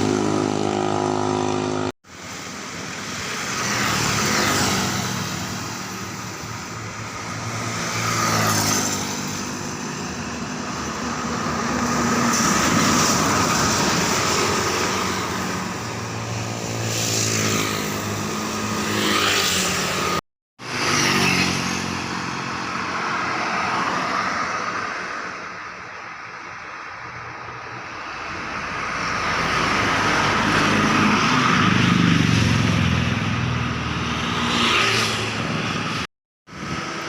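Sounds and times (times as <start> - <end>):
heavy diesel truck engines: 0.0 - 34.1.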